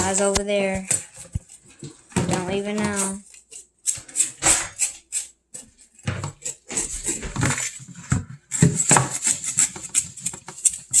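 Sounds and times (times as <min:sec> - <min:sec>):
utensils and dishes clattering: 0:00.0 - 0:11.0.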